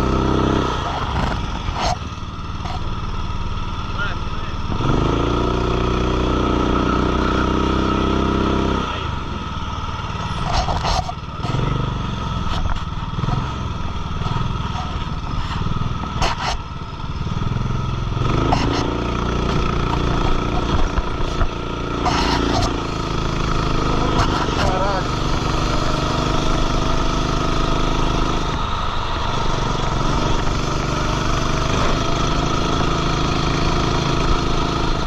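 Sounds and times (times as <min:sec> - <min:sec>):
kart engine revving: 0:00.0 - 0:35.0.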